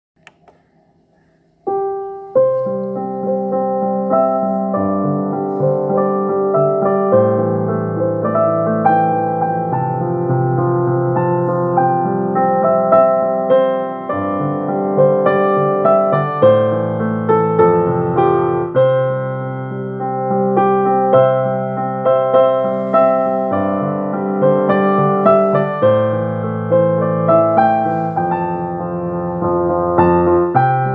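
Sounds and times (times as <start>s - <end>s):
piano music: 0.2s - 30.9s.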